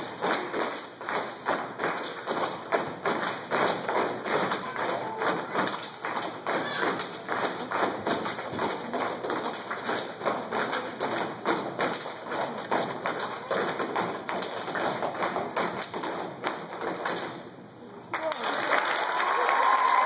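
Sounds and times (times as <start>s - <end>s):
body claps: 0.0s - 17.4s
rhythmic stomps: 0.0s - 17.6s.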